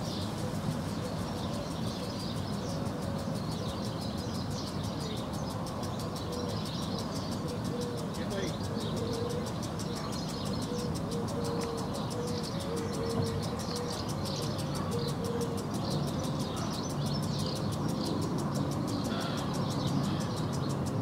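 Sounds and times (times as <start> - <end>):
birds twittering: 0.0 - 21.0
distant traffic rumble: 0.0 - 21.0
lawn sprinkler ticking: 1.6 - 21.0.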